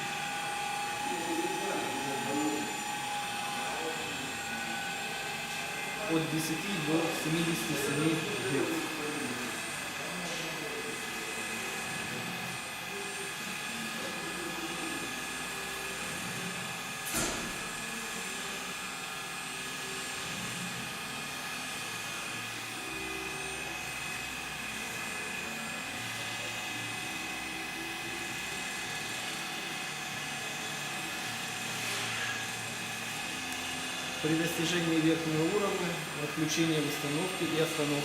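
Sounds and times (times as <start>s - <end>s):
machine whine with high tones: 0.0s - 38.0s.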